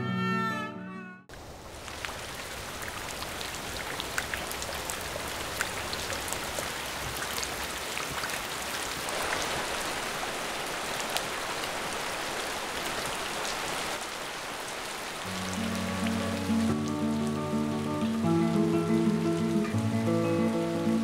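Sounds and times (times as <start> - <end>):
rain on water and metal roof: 1.3 - 21.0.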